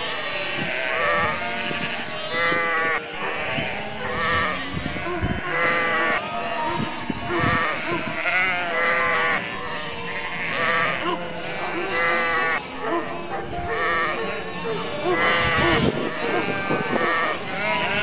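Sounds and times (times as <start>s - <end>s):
sheep bleating: 0.0s - 18.0s.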